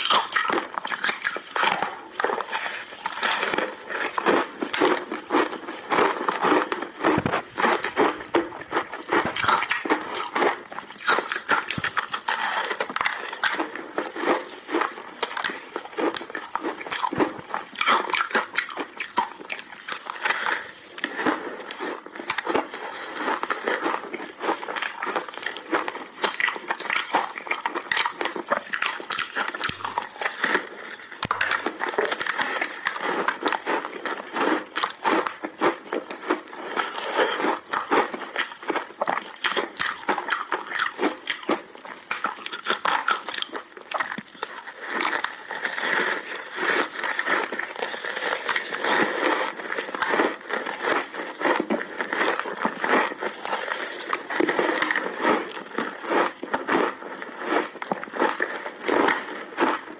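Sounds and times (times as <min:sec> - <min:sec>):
crunching frozen ice: 0:00.0 - 0:59.9.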